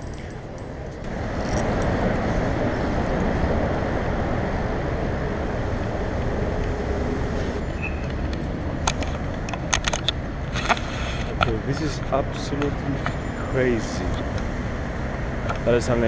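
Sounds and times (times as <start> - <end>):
wind rumble on microphone: 0.0 - 13.3
road traffic noise: 0.0 - 16.0.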